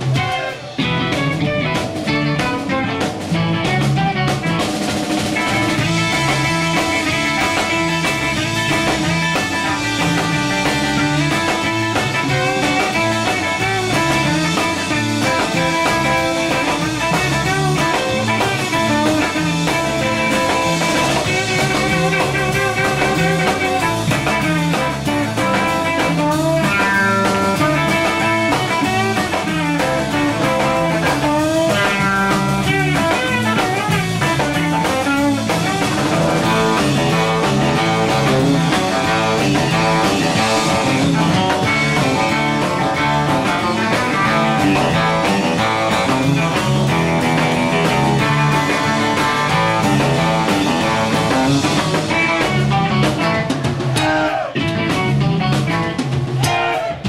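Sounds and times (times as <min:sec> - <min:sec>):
bass guitar: 0:00.0 - 0:57.0
drums: 0:00.0 - 0:57.0
electric guitars: 0:00.0 - 0:57.0.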